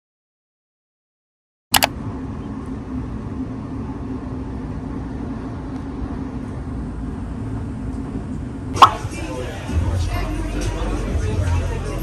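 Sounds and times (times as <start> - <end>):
city traffic rumble: 1.8 - 12.0
constant hum: 1.8 - 12.0.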